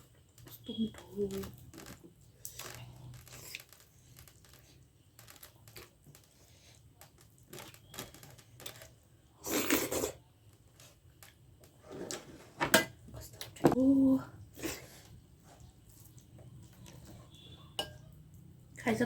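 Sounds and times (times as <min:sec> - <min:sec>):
soft chewing: 0:00.0 - 0:11.8, 0:14.4 - 0:18.8.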